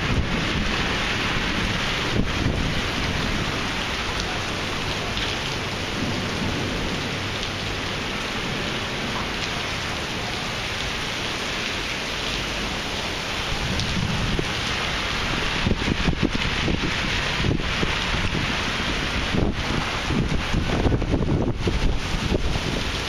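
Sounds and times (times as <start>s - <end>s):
heavy rain on pavement and cars: 0.0s - 23.0s.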